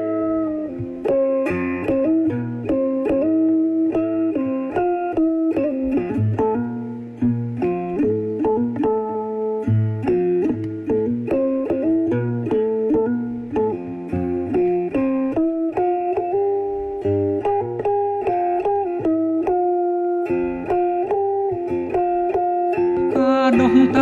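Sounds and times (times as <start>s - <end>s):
plucked stick zither: 0.0s - 24.0s.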